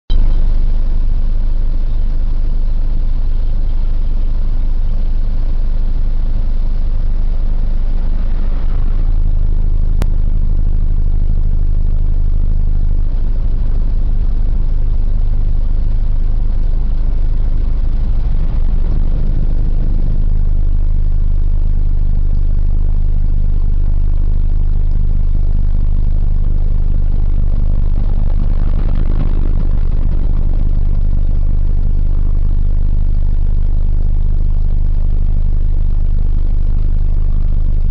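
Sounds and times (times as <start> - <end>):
engine idling: 0.1 - 37.9.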